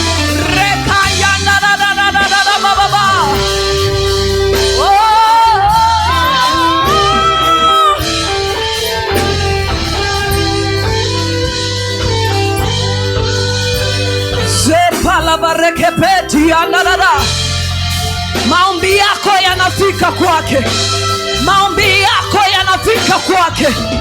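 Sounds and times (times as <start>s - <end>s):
wordless singing with vibrato: 0.0s - 24.0s
worship band music: 0.0s - 24.0s.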